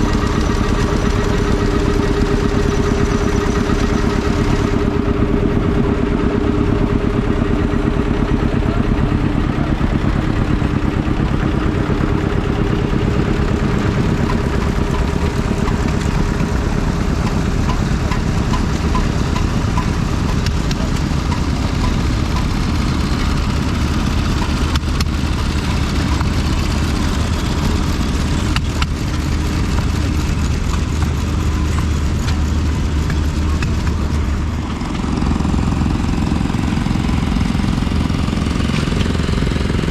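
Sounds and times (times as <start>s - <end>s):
stationary engine idling: 0.0s - 39.9s.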